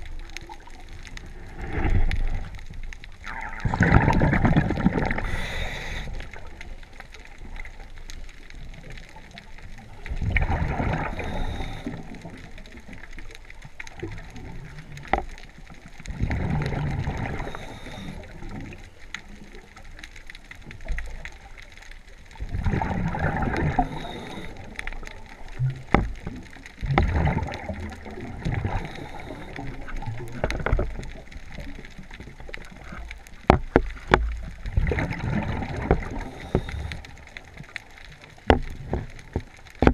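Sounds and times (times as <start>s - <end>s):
underwater exhaust bubbles gurgling: 0.0s - 39.9s.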